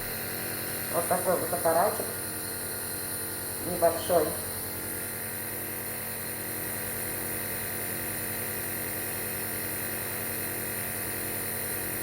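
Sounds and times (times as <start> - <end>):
nebulizer humming: 0.0 - 12.0.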